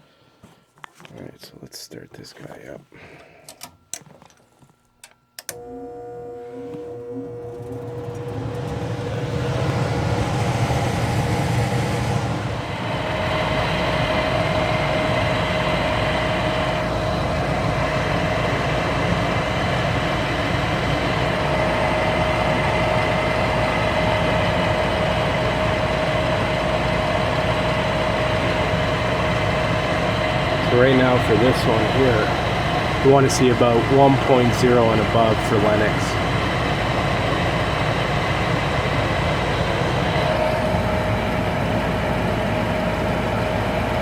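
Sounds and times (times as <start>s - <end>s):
furnace whine: 0.0s - 44.0s
gas furnace humming: 0.0s - 44.0s.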